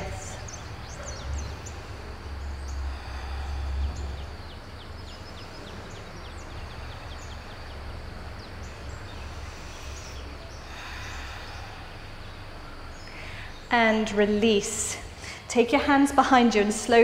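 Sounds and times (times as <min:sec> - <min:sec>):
small bird chirping: 0:00.0 - 0:14.1
low room rumble: 0:00.0 - 0:17.0.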